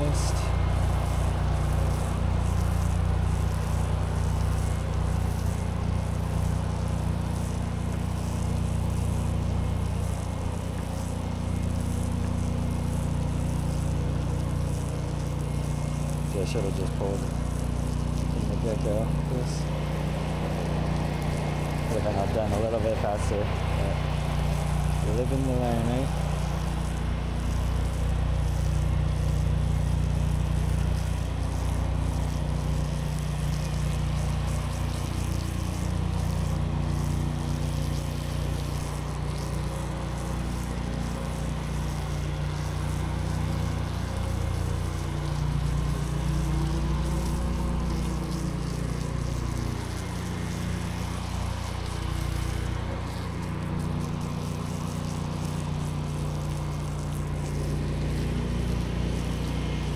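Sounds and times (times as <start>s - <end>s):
pressure washer engine running: 0.0s - 59.9s
water spraying on concrete: 0.0s - 59.9s.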